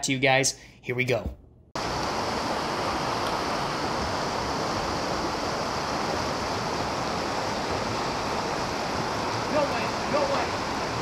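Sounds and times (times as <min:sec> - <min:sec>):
whitewater rapids rushing: 0:01.8 - 0:11.0.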